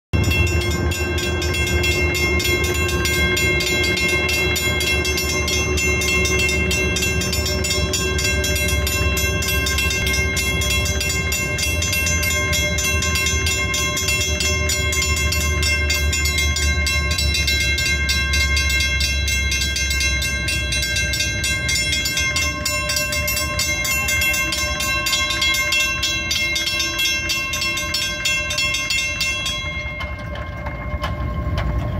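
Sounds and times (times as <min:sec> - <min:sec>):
crossing warning bells ringing: 0:00.2 - 0:31.9
low steady rumble: 0:00.2 - 0:31.9.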